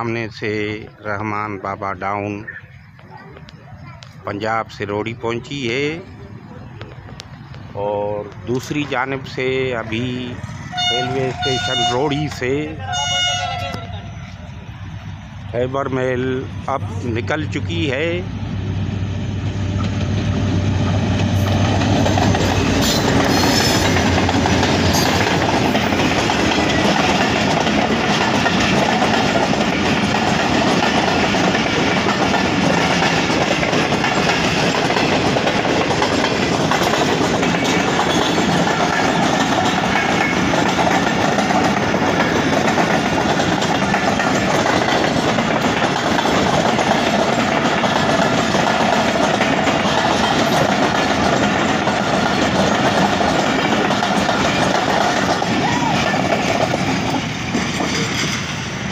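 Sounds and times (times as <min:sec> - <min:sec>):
train wheels rumbling and clattering: 0:00.0 - 0:58.9
locomotive engine hum: 0:05.1 - 0:58.9.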